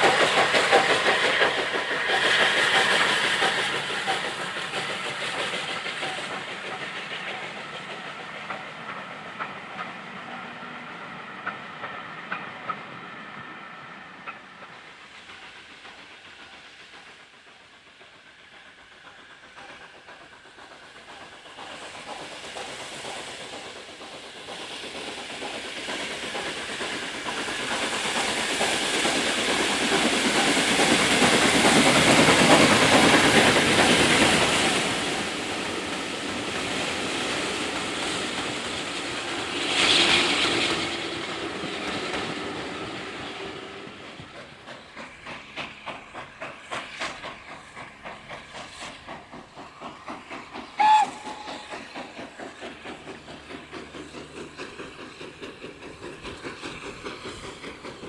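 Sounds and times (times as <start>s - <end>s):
steam locomotive passing: 0.0s - 58.0s
train wheels on rails: 0.0s - 58.0s.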